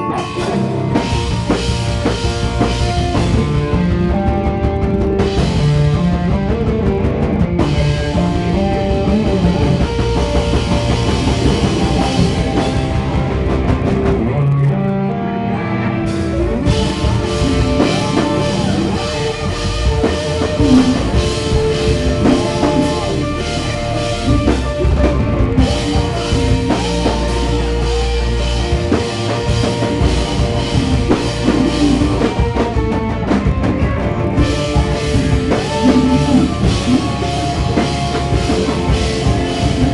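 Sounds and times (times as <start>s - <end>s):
rock band playing loudly: 0.0s - 39.9s.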